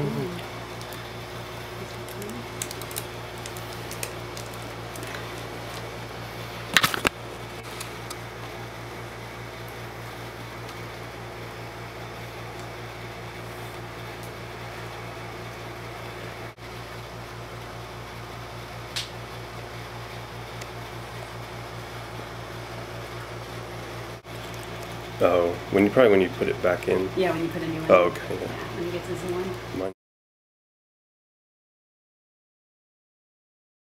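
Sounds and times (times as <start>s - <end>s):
fan-like hum: 0.0s - 30.0s.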